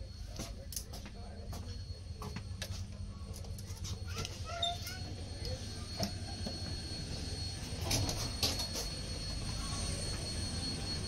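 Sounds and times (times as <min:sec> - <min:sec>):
thin high whine: 0:00.0 - 0:11.0
train low rumble: 0:00.0 - 0:11.0.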